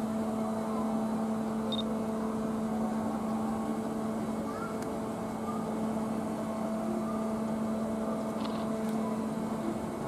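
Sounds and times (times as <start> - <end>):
ride mechanical hum: 0.0 - 10.0.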